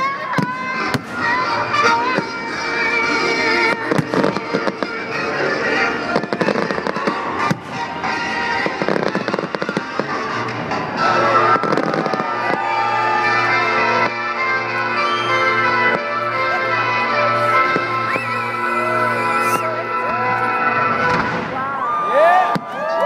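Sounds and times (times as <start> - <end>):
fireworks bursting and crackling: 0.0 - 21.6
loud music: 0.0 - 21.6.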